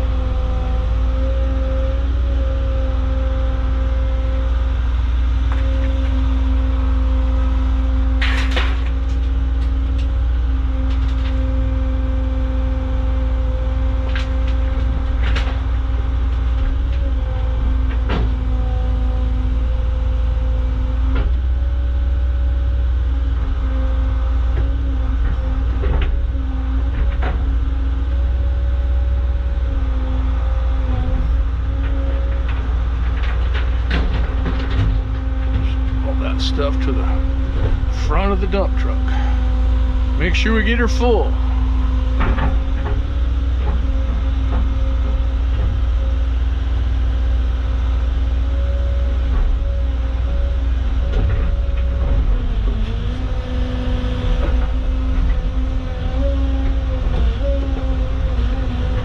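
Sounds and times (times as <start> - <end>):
diesel engine running: 0.0 - 59.0
hydraulic whine: 0.0 - 59.0.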